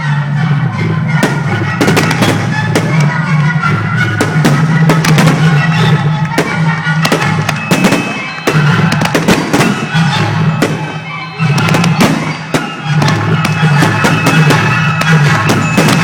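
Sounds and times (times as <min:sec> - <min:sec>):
loud music with bass: 0:00.0 - 0:16.0
fireworks bangs and crackles: 0:00.2 - 0:16.0.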